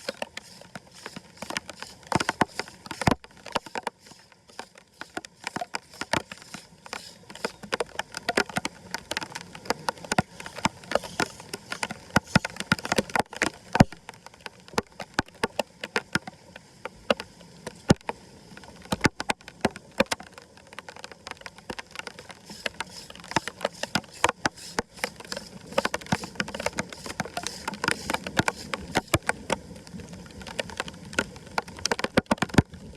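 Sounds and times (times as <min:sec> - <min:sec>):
floodwater rushing: 0:00.0 - 0:15.9, 0:18.6 - 0:32.2
sharp clicks and splashes: 0:00.0 - 0:32.9.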